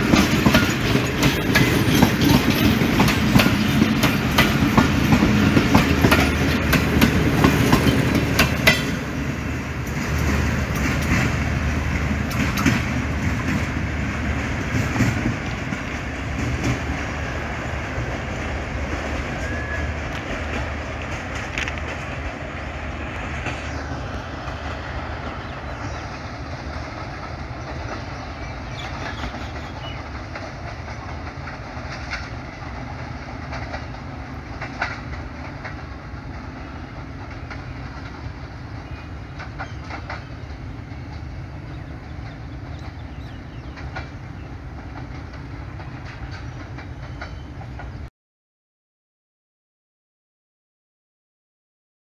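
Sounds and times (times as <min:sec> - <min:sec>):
wheels clicking over rail joints: 0:00.0 - 0:22.4, 0:25.3 - 0:48.1
train rumbling: 0:00.0 - 0:48.1.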